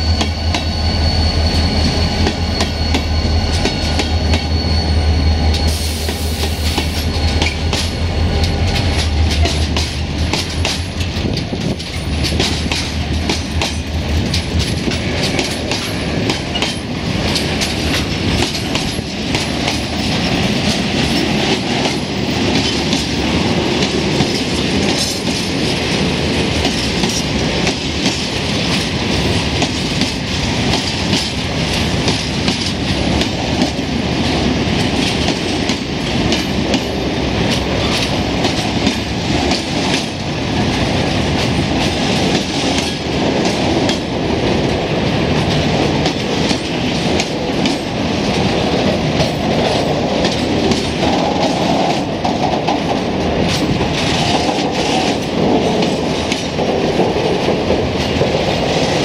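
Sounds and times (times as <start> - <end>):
train wheels rumbling on rail: 0.0 - 59.0
wheels clicking over rail joints: 6.7 - 59.0.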